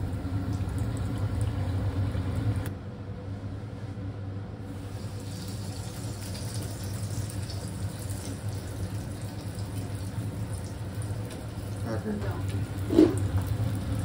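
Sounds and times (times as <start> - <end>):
food deep-frying in hot oil: 0.0 - 2.6, 4.7 - 14.0.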